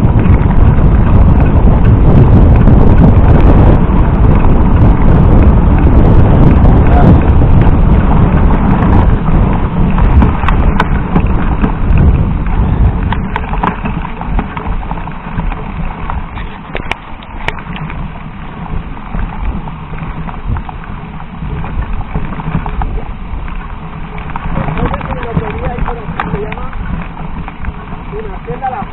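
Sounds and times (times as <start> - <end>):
bike rattles and knocks: 0.0 - 28.9
bike tyres crunching on dirt: 0.0 - 28.9
wind buffeting microphone: 0.0 - 28.9.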